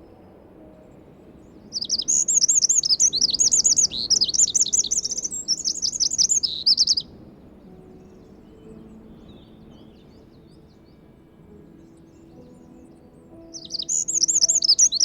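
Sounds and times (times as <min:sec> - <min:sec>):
bird singing high trills: 0:00.0 - 0:15.0.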